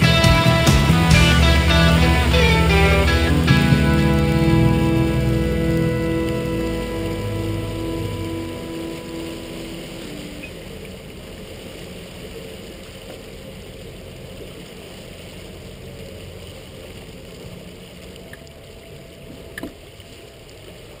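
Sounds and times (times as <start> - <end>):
boat engine low rumble: 0.0 - 21.0
water noise: 0.0 - 21.0.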